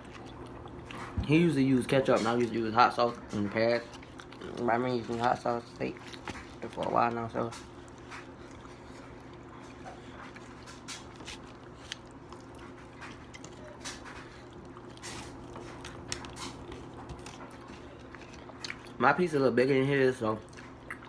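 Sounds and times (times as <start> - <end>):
people chewing fried chicken: 0.0 - 21.0
steady low hum: 0.0 - 21.0.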